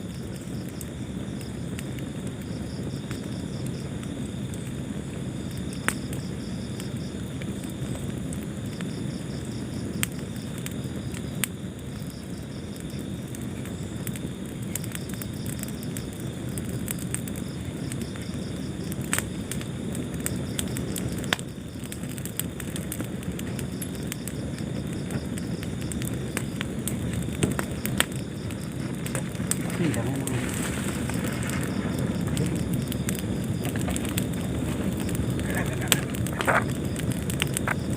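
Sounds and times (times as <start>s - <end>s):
fire crackling and popping: 0.0s - 37.9s.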